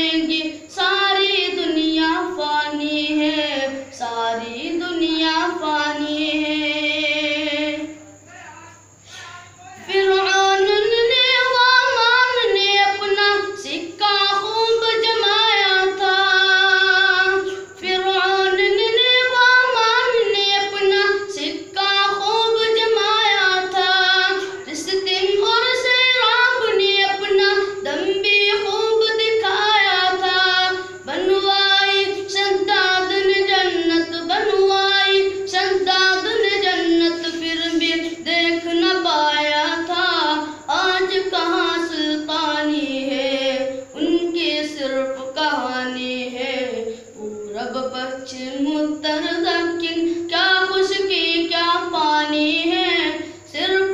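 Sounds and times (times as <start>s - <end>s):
boy singing into microphone: 0.0s - 53.9s
faint low hum: 0.0s - 53.9s.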